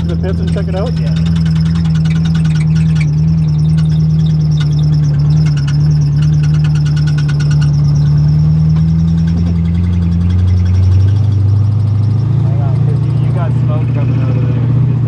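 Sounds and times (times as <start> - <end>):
rapid light ticking: 0.0 - 14.5
car engine running at low revs: 0.0 - 15.0.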